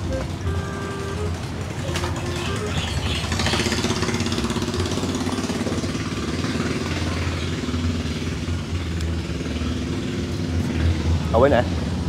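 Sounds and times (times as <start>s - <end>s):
boat engine idling: 0.0s - 10.4s.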